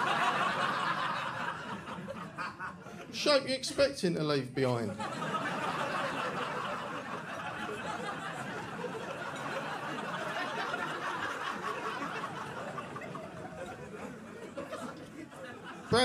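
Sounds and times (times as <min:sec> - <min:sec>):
audience laughing: 0:00.0 - 0:03.3, 0:04.6 - 0:16.0.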